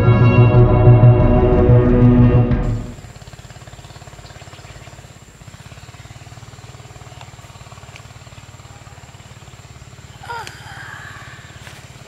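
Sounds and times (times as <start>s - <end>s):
motor running: 0.0s - 12.0s.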